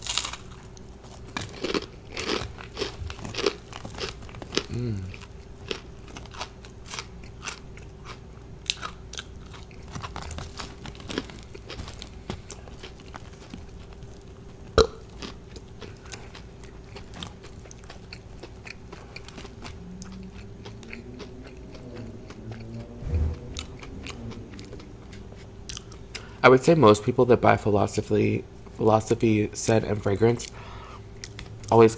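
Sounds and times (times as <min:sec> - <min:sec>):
person chewing crunchy food: 0:00.0 - 0:26.4, 0:30.4 - 0:31.8.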